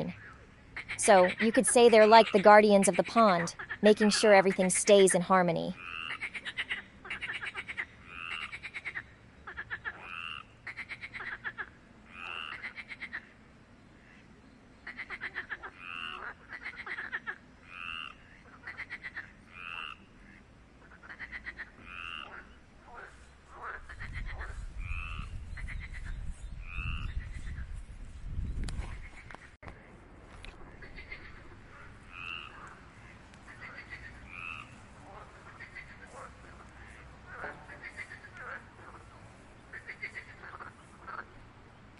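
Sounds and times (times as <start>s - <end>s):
frogs calling: 0.0s - 13.4s, 14.0s - 27.5s, 30.6s - 41.4s.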